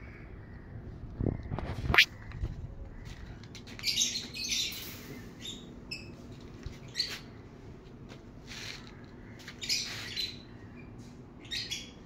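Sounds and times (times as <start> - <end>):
small birds chirping and squawking: 0.0 - 7.4, 8.4 - 12.0.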